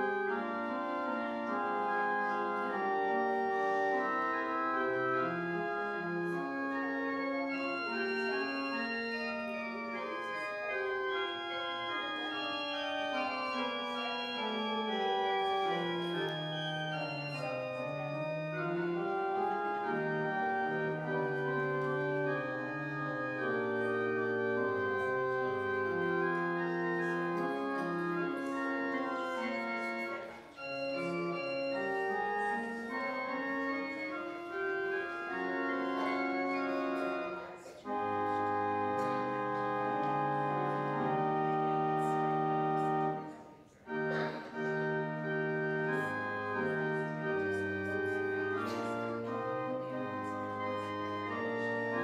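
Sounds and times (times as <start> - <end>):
church organ playing chords: 0.0 - 52.0.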